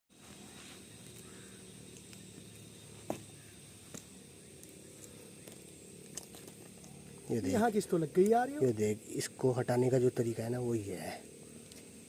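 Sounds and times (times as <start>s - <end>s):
low steady background noise: 0.1s - 12.0s.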